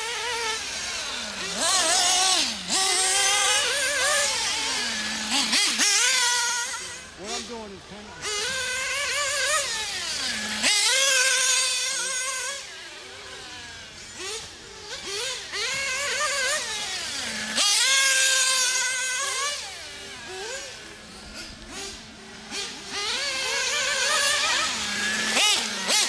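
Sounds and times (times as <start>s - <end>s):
rc buggy engines whining: 0.0s - 26.0s.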